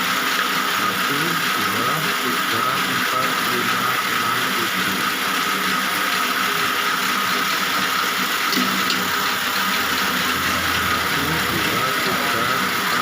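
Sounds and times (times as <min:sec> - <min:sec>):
electric machine motor running: 0:00.0 - 0:13.0.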